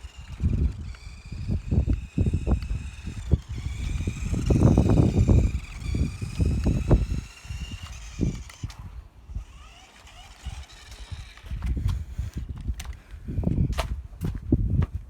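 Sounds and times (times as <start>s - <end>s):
electric motor whining: 0.0s - 13.7s.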